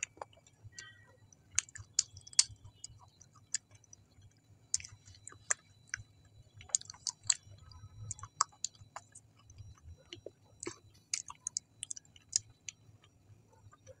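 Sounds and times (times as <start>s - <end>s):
mouth chewing with smacks: 0.0s - 14.0s.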